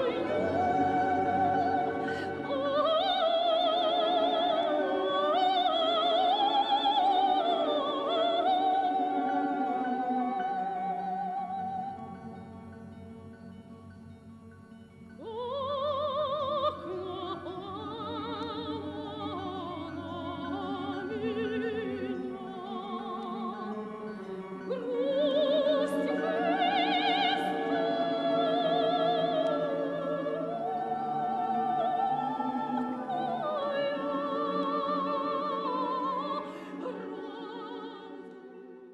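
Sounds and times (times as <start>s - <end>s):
operatic singing: 0.0s - 13.6s, 15.1s - 38.9s
orchestral accompaniment: 0.0s - 38.6s.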